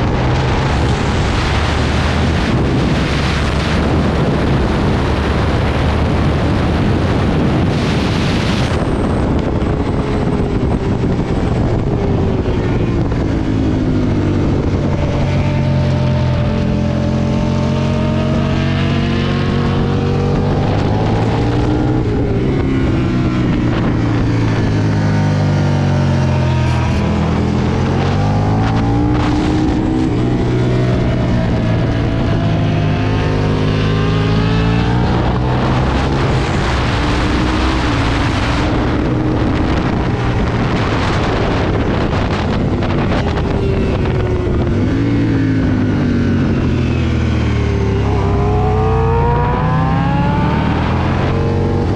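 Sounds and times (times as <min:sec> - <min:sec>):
motorcycle engine revving: 0:00.0 - 0:51.9
wind rush on microphone: 0:00.0 - 0:51.9.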